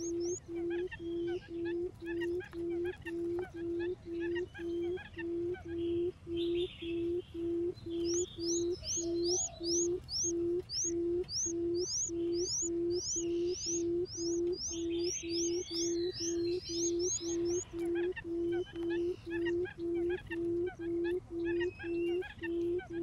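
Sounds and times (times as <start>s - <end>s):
buttonquail low hooting call: 0.0s - 23.0s
small bird high chirps: 0.0s - 23.0s.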